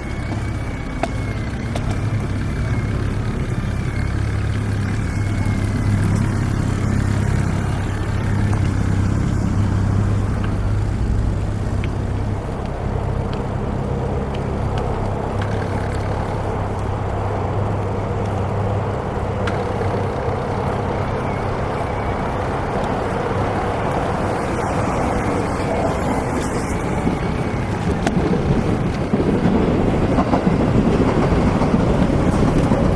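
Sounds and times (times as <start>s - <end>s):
street traffic: 0.0s - 32.9s
vehicle engine humming: 0.0s - 32.9s.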